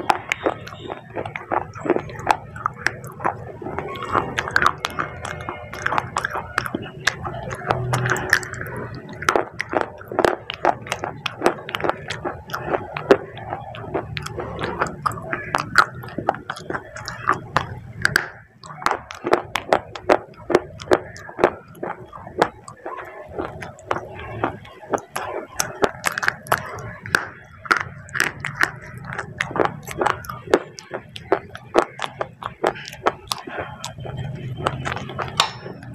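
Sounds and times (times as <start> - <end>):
wet crackling chewing: 0.0 - 35.9.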